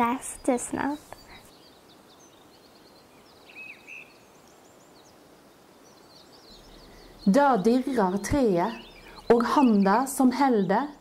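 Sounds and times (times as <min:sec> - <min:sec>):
faint birds chirping: 0:00.0 - 0:11.0
low even hiss: 0:00.0 - 0:11.0.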